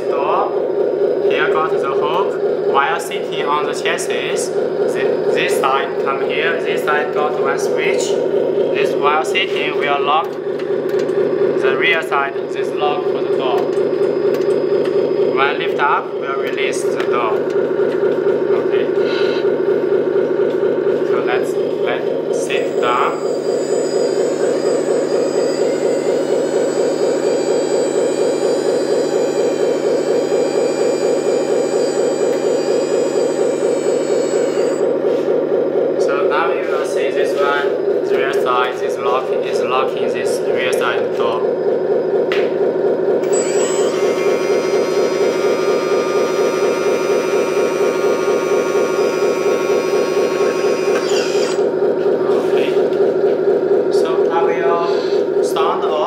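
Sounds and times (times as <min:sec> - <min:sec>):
hydraulic pump motor whine: 0:00.0 - 0:56.0
simulated diesel engine throb: 0:00.0 - 0:56.0.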